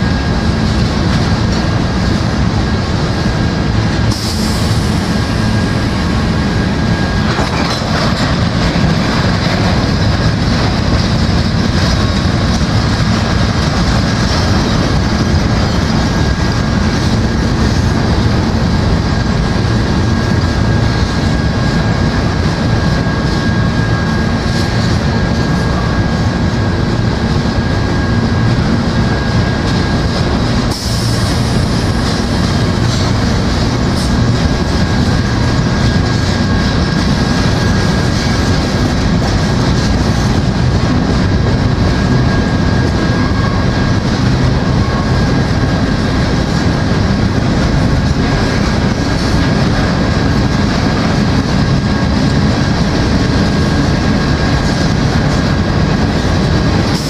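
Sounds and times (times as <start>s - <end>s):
steel wheels rolling on rails: 0.0s - 57.0s.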